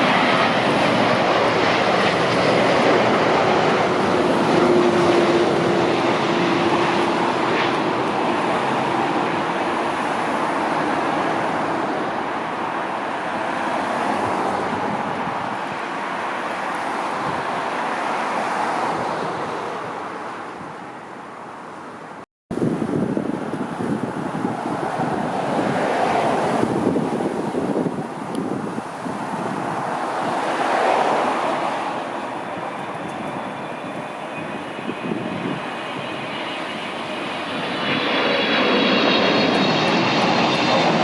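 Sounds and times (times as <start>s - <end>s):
jet airliner engines: 0.0s - 41.0s.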